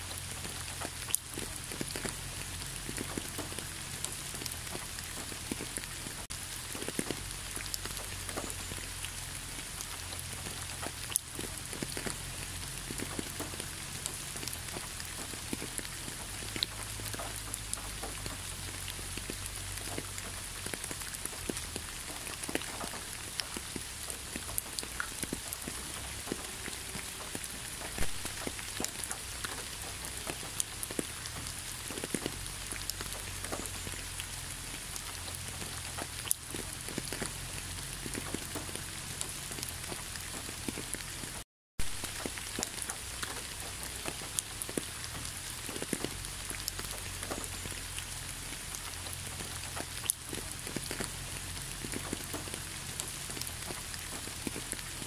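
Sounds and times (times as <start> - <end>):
raindrops ticking: 0.0 - 55.0
steady rain falling: 0.0 - 55.0.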